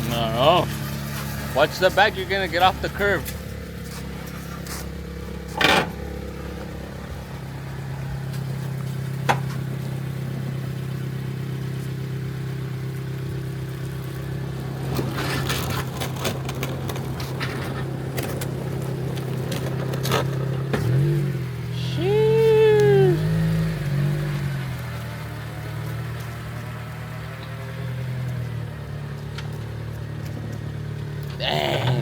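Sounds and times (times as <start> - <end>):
car engine running at low revs: 0.0 - 32.0.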